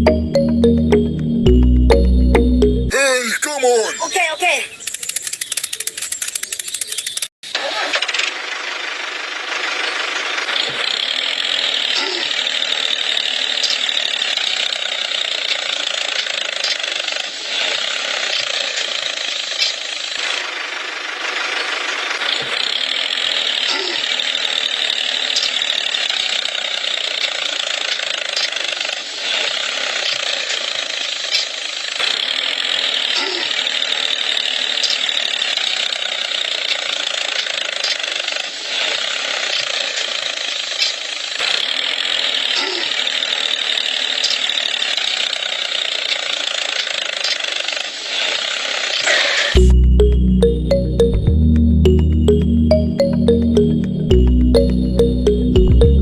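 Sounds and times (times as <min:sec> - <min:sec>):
small motor rattling: 0:04.7 - 0:49.6.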